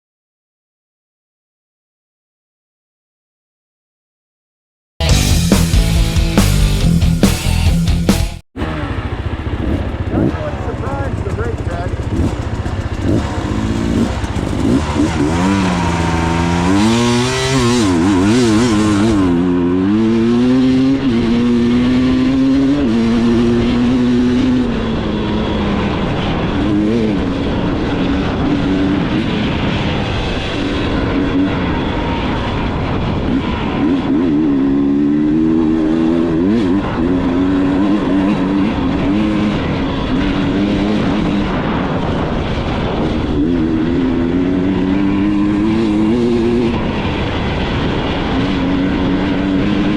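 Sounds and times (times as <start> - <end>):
dirt bike engine revving: 5.0 - 49.9.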